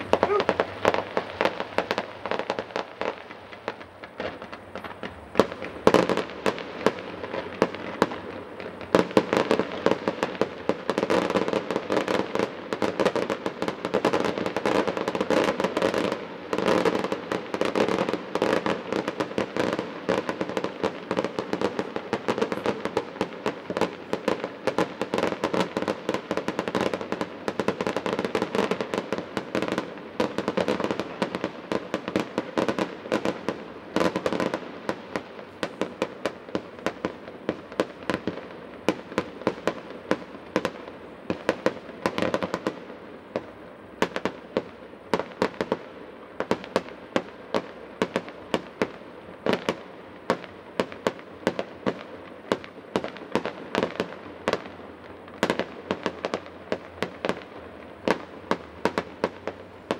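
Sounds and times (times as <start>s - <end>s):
fireworks crackling and banging: 0.0s - 59.9s.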